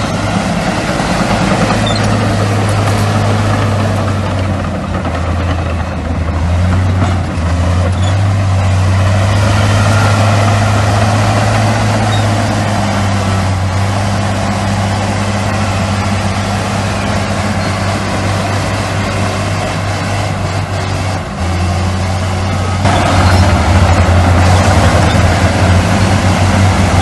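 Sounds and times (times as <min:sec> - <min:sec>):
heavy diesel engine drone: 0:00.0 - 0:27.0.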